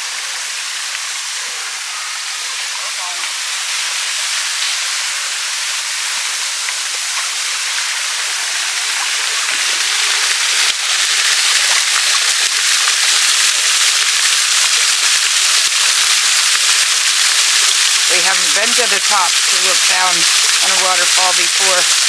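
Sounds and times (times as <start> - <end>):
crackly water splashing: 0.0 - 22.0
small waterfall rushing: 0.0 - 22.0.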